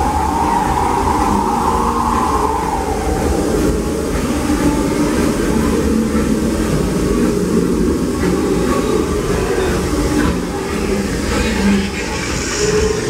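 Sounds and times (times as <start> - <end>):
steam train rumbling: 0.0 - 13.0.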